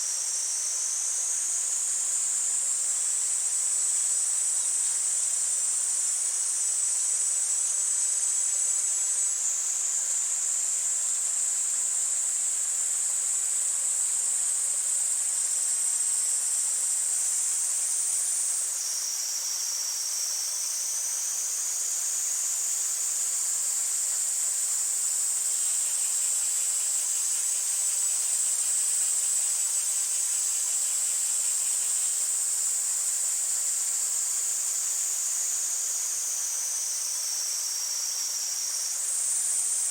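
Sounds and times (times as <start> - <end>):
cicadas droning: 0.0 - 39.9
lower pulsing cicada call: 0.0 - 39.9.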